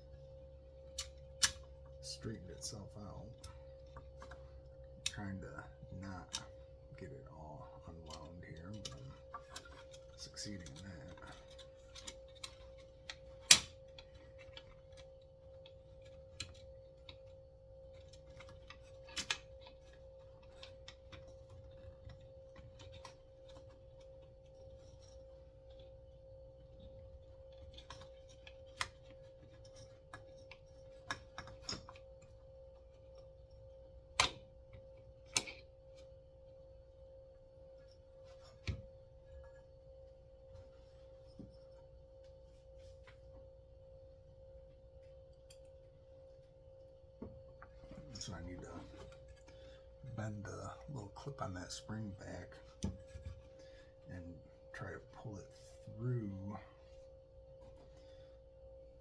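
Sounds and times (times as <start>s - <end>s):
faint humming tone: 0.0s - 59.0s.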